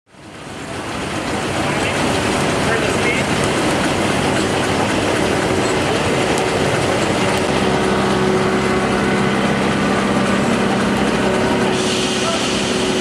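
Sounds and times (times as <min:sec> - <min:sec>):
mill humming: 0:00.1 - 0:13.0
steam engine running: 0:00.1 - 0:13.0
machinery clattering: 0:00.2 - 0:13.0.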